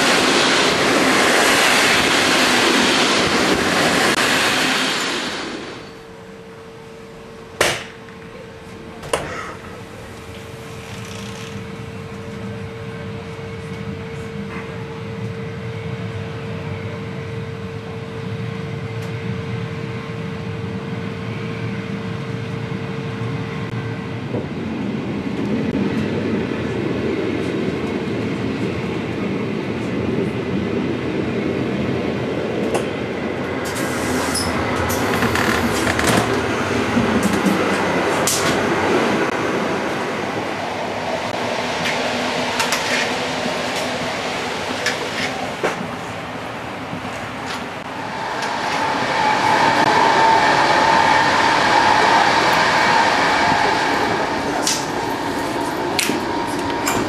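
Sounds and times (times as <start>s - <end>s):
train rolling on track: 0.0s - 6.5s, 8.9s - 16.3s, 23.6s - 57.0s.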